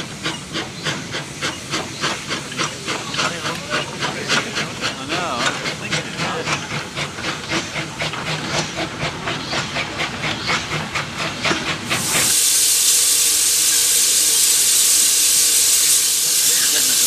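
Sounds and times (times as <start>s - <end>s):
steam hissing: 0.0s - 17.0s
steam locomotive exhaust beats: 0.0s - 17.0s.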